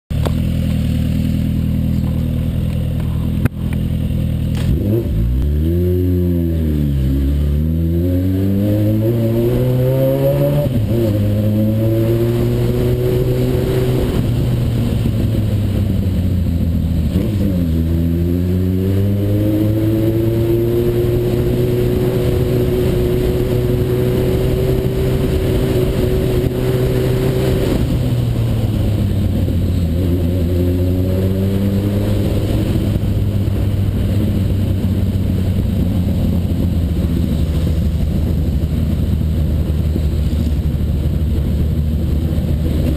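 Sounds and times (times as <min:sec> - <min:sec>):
motorcycle engine running: 0:00.1 - 0:42.9.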